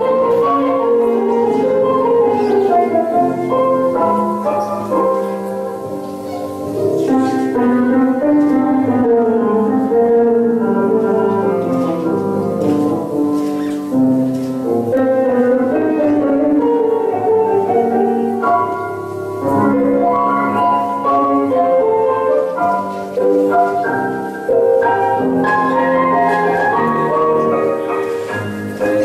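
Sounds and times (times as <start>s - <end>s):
tango orchestra music: 0.0s - 29.0s.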